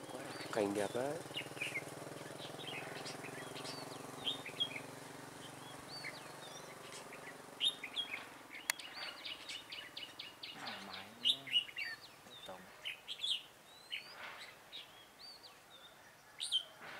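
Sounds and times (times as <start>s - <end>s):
bulbuls chirping and whistling: 0.0s - 16.9s.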